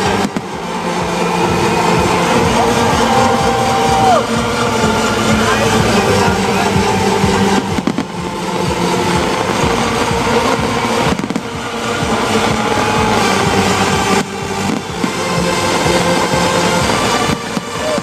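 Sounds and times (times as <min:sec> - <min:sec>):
fireworks bangs and crackling: 0:00.0 - 0:18.0
loud music: 0:00.0 - 0:18.0.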